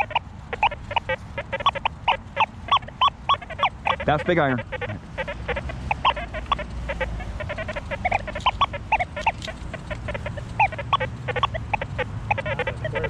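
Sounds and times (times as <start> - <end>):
metal detector beeps: 0.0 - 13.0.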